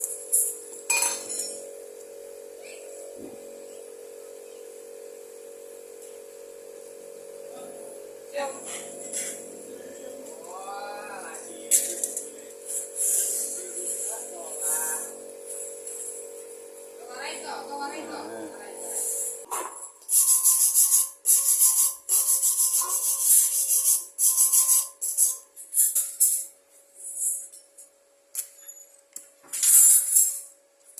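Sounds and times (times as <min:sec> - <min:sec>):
steady electrical hum: 0:00.0 - 0:30.9.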